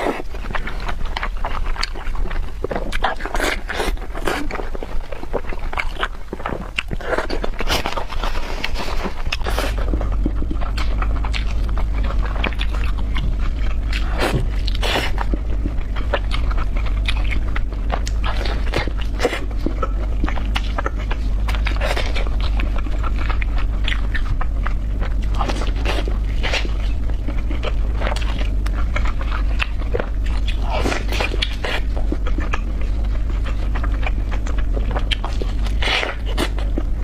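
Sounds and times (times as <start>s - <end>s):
people chewing and crunching: 0.0s - 37.0s.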